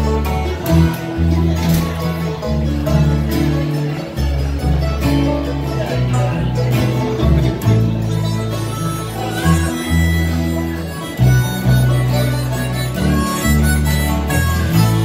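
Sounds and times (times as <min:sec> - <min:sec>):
banjo: 0:00.0 - 0:15.0
harmonica: 0:00.0 - 0:15.0
mandolin: 0:00.0 - 0:15.0
strummed acoustic guitars: 0:00.0 - 0:15.0.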